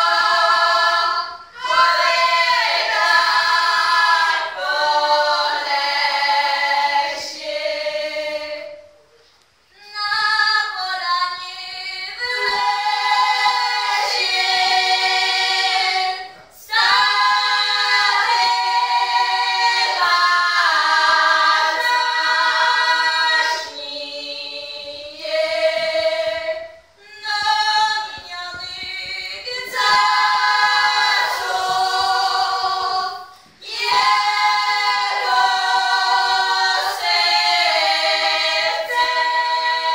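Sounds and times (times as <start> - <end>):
women singing folk song together: 0.0 - 9.0, 9.7 - 39.9.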